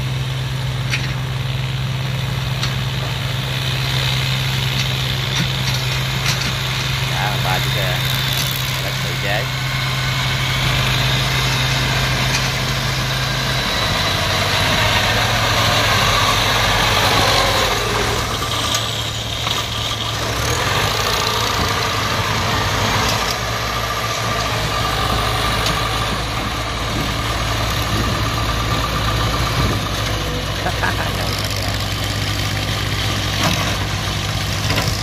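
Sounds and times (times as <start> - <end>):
tracked vehicle engines running: 0.0 - 35.0.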